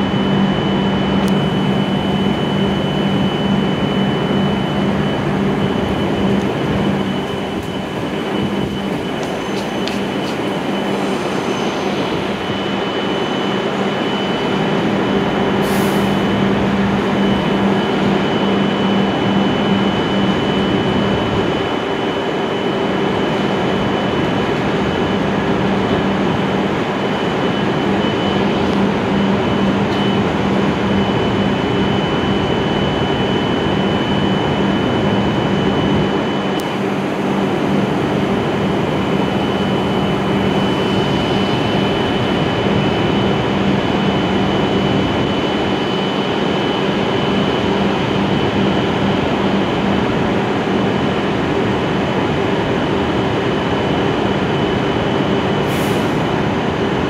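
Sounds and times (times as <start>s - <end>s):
thin high whine: 0.0s - 57.0s
train equipment low drone: 0.0s - 57.0s.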